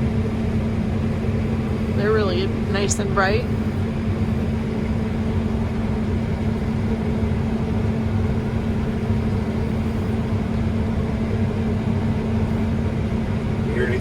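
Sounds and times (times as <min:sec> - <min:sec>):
combine engine droning: 0:00.0 - 0:14.0.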